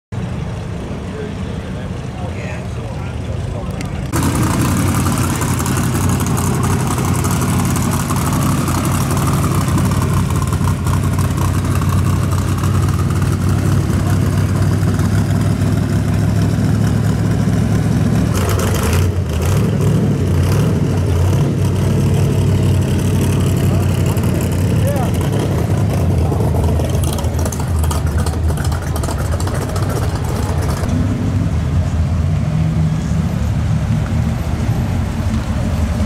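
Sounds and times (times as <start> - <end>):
engine idling low rumble: 0.1 - 36.0.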